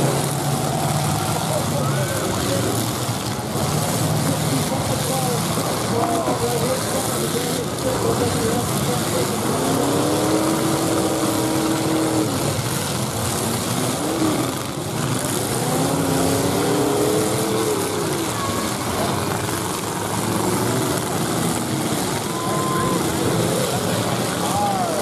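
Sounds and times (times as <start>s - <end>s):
car engines revving: 0.0s - 25.0s
steady wash of noise: 0.0s - 25.0s.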